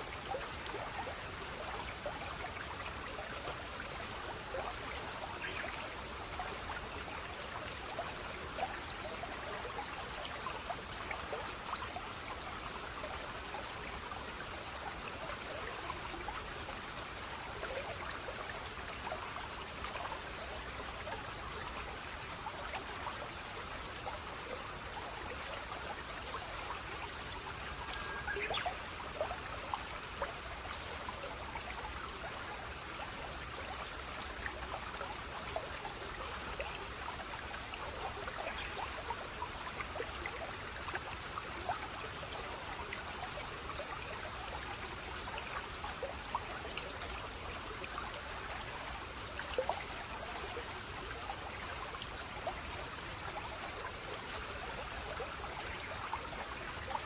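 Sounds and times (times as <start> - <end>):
stream water flowing: 0.0 - 57.0
water splashes and drips: 0.0 - 57.0.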